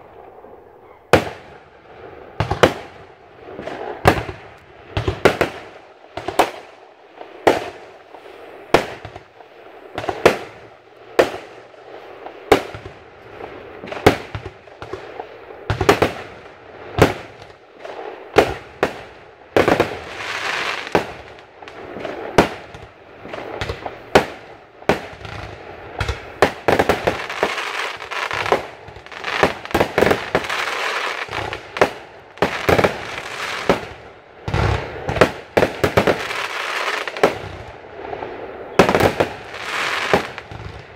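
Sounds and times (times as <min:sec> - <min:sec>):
firework crackling: 0:00.0 - 0:40.9.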